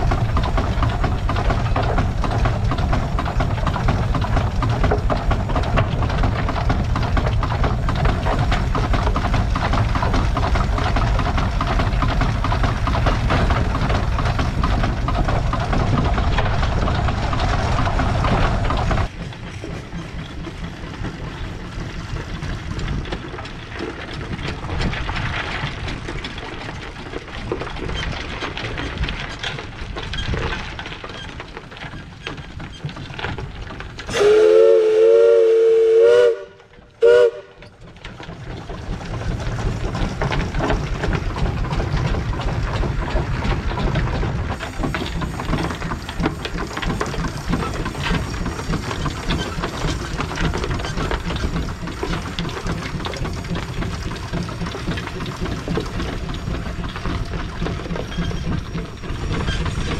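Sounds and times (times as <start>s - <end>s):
steam traction engine running: 0.0s - 59.9s.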